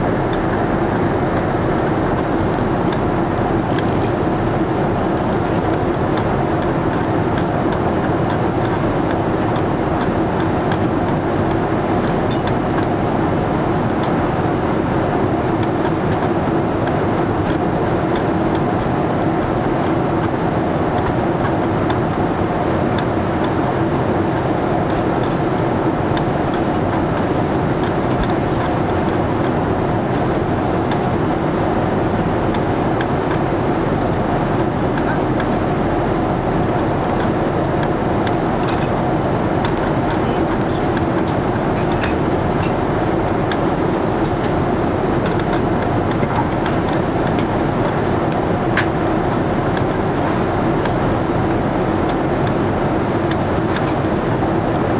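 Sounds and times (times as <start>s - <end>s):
jet engine drone: 0.0s - 54.9s.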